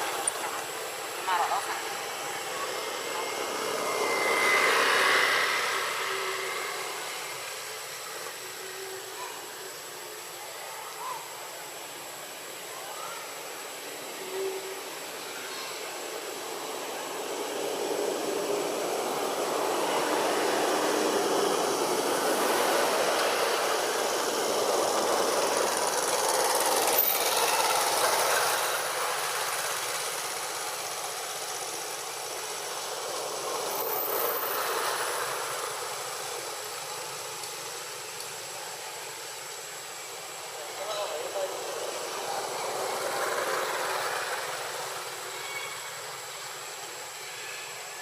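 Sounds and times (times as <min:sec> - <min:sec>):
vehicles passing: 0:00.0 - 0:10.4, 0:13.8 - 0:47.2.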